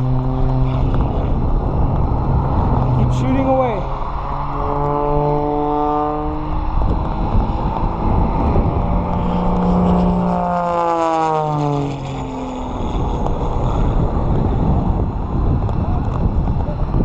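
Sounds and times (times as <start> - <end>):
propeller plane engine droning: 0.0 - 17.0
wind buffeting microphone: 0.0 - 17.0.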